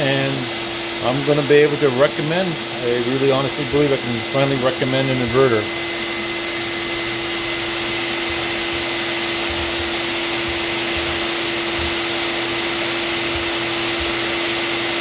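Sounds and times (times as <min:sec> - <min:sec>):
vacuum cleaner motor running: 0:00.0 - 0:15.0.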